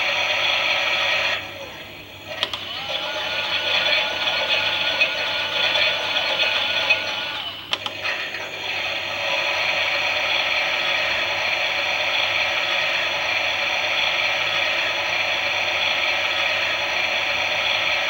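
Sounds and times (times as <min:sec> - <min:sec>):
toy washing machine motor whirring: 0:00.0 - 0:18.0.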